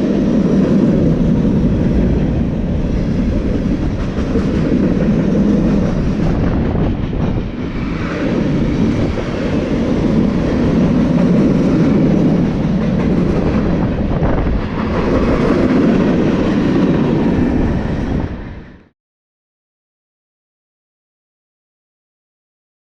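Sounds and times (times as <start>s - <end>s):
freight train rolling past: 0.0s - 18.9s.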